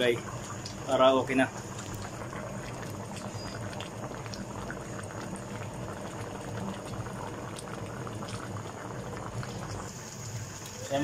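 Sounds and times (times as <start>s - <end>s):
stew bubbling and popping: 0.0s - 11.0s.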